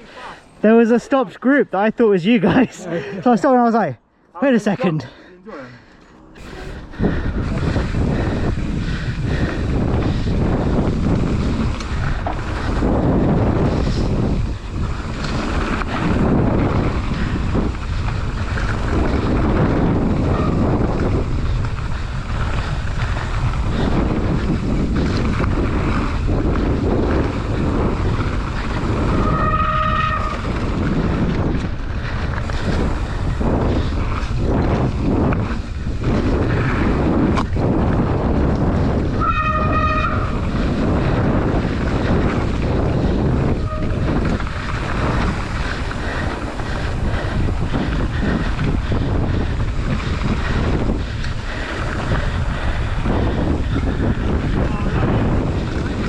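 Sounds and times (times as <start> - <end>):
bike rattling over bumps: 6.2 - 56.0
wind on microphone: 6.4 - 56.0.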